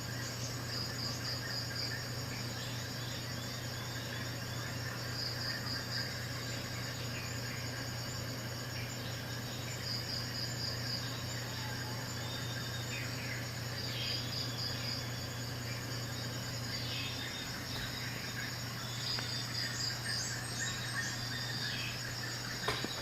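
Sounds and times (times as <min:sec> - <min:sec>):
crickets chirping: 0:00.0 - 0:23.0
steady low hum: 0:00.0 - 0:23.0.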